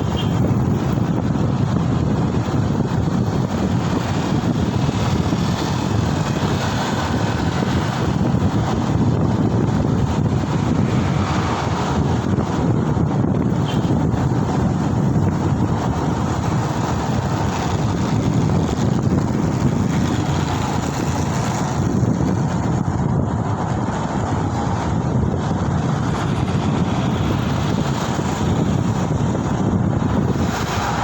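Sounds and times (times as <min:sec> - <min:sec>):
road noise: 0:00.0 - 0:31.0
wind rushing over microphone: 0:00.0 - 0:31.0.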